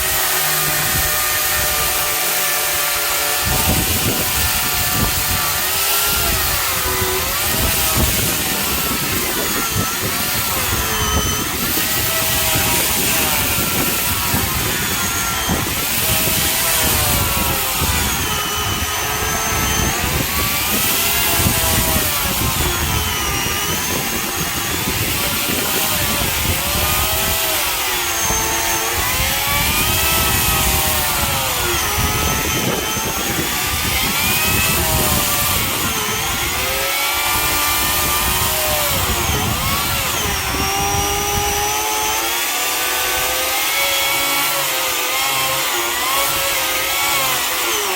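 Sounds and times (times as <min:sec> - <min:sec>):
electric chainsaw cutting wood: 0:00.0 - 0:47.9.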